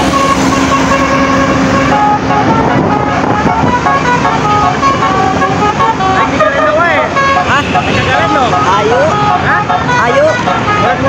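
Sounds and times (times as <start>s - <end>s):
bus musical horn playing a tune: 0.0s - 11.0s
engine and road noise: 0.0s - 11.0s.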